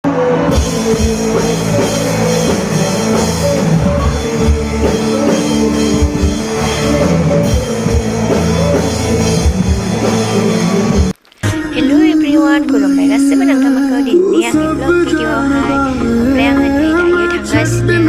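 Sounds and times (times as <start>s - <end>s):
rock band music: 0.0s - 18.0s.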